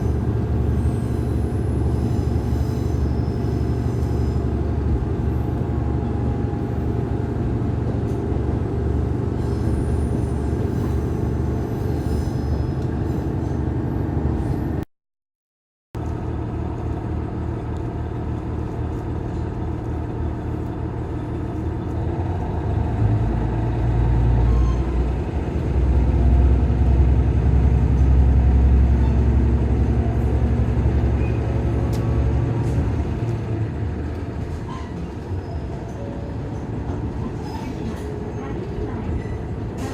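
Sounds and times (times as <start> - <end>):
diesel railcar rumbling: 0.0 - 14.9, 16.0 - 39.9.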